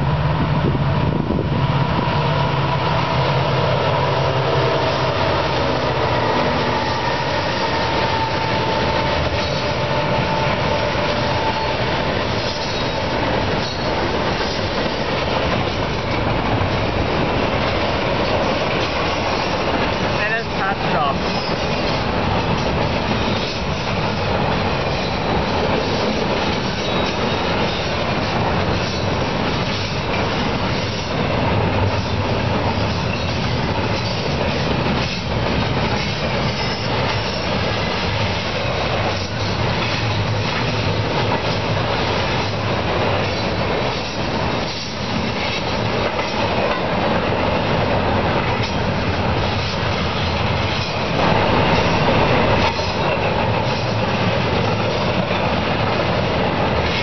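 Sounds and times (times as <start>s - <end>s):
steel wheels rumbling on rail: 0.0s - 57.0s
wheels clacking over rail joints: 4.8s - 57.0s.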